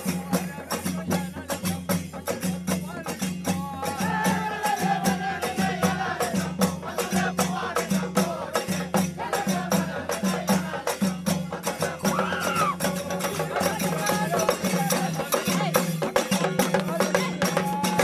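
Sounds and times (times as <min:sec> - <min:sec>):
fast festival drumming: 0:00.0 - 0:18.0
rattling percussion: 0:00.0 - 0:18.0.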